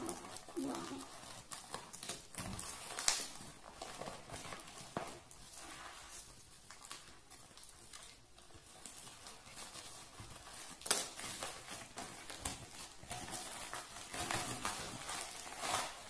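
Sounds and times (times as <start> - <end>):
plastic mailer bag crinkling: 0.0 - 16.0.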